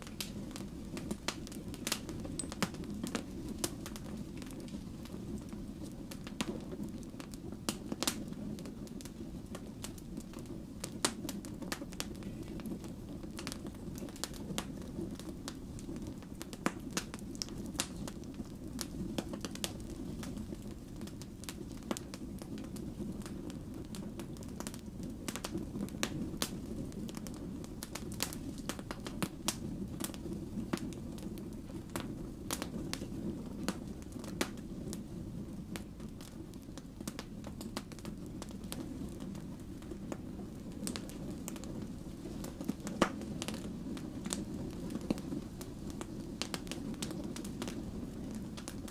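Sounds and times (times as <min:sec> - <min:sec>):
logs popping and crackling: 0:00.0 - 0:48.9
low rumble of flames: 0:00.0 - 0:48.9.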